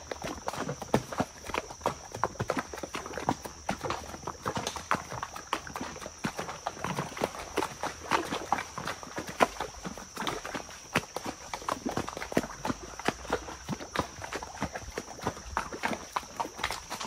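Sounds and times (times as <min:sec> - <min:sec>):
horse hooves clopping on stones: 0:00.0 - 0:17.0.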